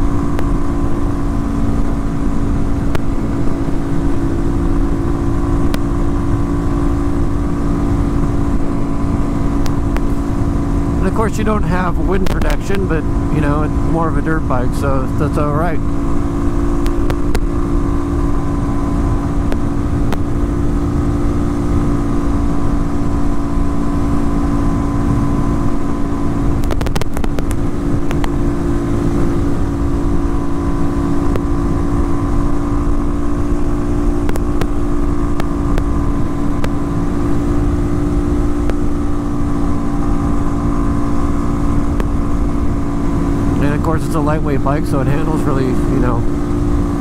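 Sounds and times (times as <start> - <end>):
motorcycle engine at high revs: 0.0 - 47.0.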